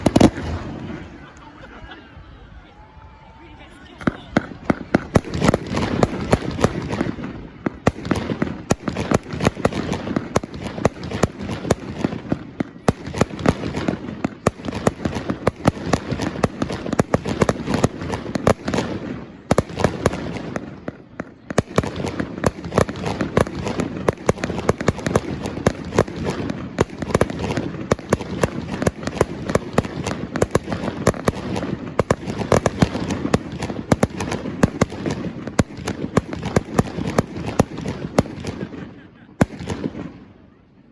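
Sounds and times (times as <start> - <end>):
fireworks bangs and crackling: 0.0 - 1.8, 3.7 - 40.6.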